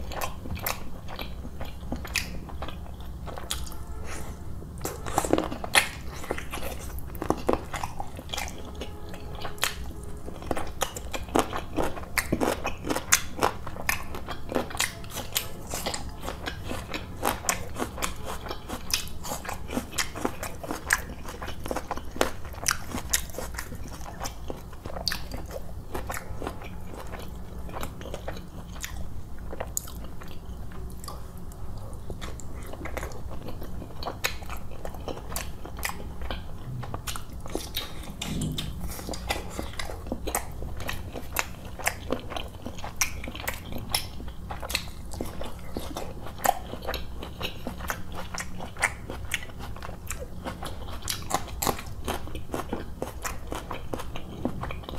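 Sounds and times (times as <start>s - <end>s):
close chewing: 0.0s - 54.9s.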